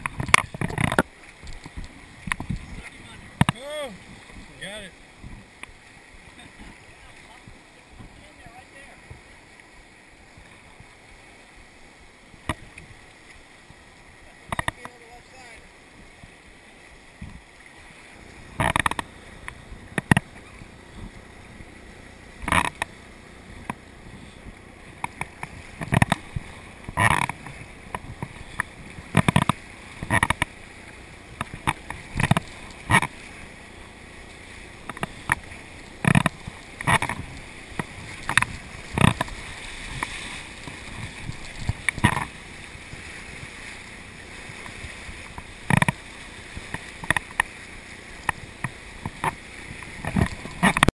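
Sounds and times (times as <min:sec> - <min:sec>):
paddle splashes: 0:00.0 - 0:50.9
whitewater rapids rushing: 0:00.0 - 0:50.9.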